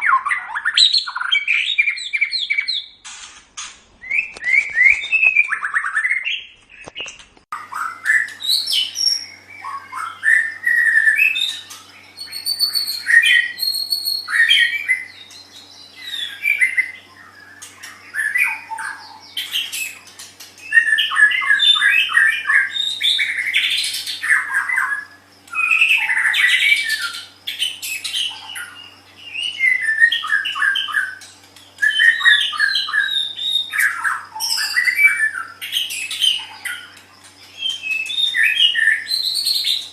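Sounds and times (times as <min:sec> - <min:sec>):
bird singing whistles: 0:04.0 - 0:06.5, 0:07.7 - 0:20.0, 0:20.6 - 0:31.2, 0:31.8 - 0:36.9, 0:37.6 - 0:39.9.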